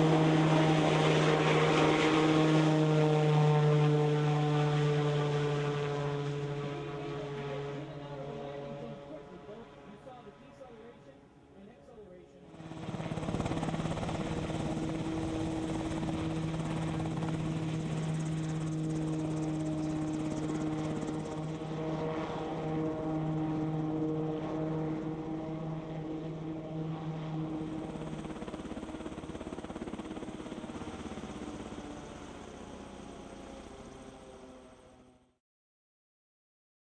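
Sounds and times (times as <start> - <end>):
helicopter rotor chop: 0.0 - 11.1, 12.4 - 35.2.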